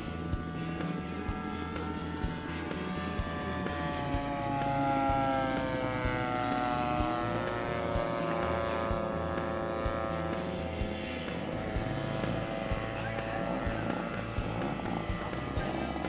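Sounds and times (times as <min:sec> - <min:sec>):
propeller engine running at high power: 0:00.0 - 0:16.0.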